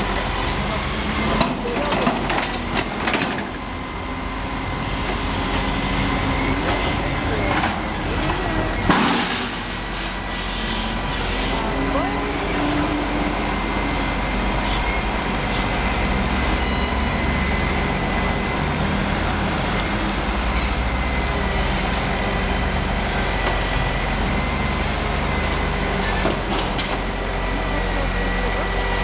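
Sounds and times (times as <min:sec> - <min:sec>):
truck diesel engine running: 0:00.0 - 0:29.0
hydraulic whine: 0:02.4 - 0:29.0.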